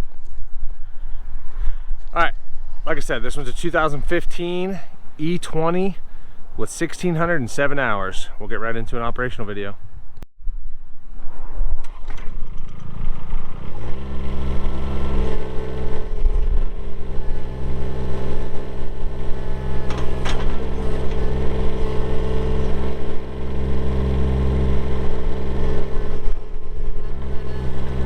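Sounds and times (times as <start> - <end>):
diesel engine cranking and idling: 2.9 - 10.2, 11.9 - 28.0.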